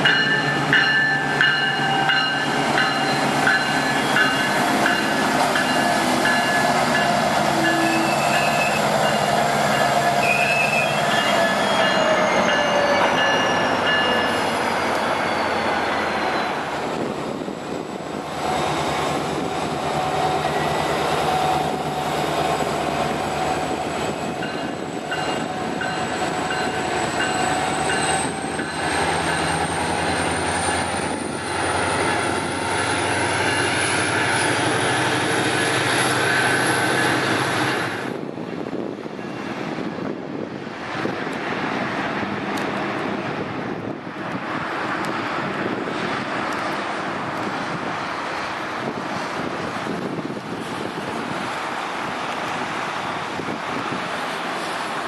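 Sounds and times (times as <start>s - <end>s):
train wheels rushing on rails: 0.0s - 55.0s.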